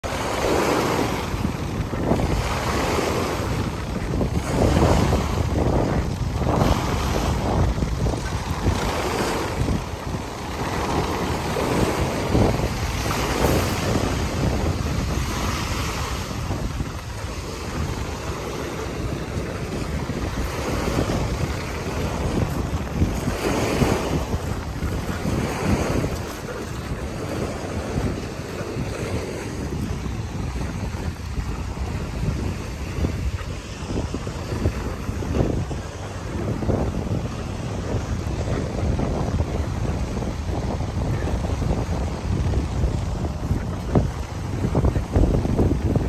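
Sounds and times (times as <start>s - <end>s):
small waves breaking on a beach: 0.0s - 46.0s
wind buffeting the microphone: 0.0s - 46.0s.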